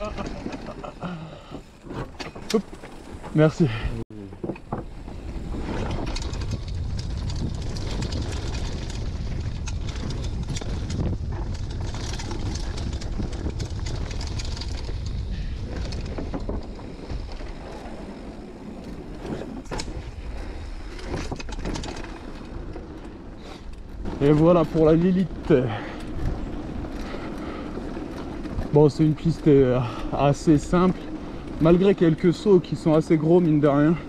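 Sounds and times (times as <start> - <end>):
bike clicks and rattles: 0.0 - 34.0
bike tyres on dirt trail: 0.0 - 34.0
wind buffeting microphone: 4.8 - 34.0.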